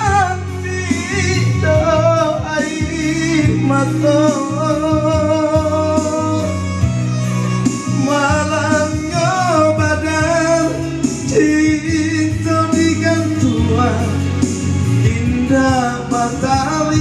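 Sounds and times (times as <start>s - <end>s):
backing music: 0.0s - 17.0s
man singing with vibrato: 0.0s - 17.0s.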